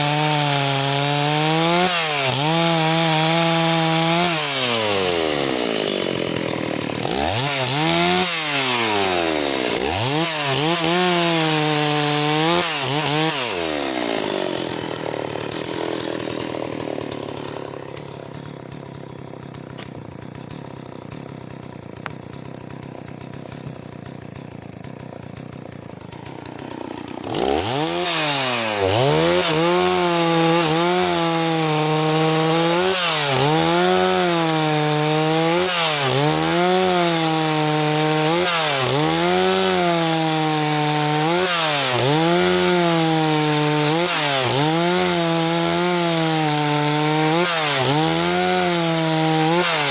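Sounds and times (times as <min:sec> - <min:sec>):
chainsaw revving: 0:00.0 - 0:49.9.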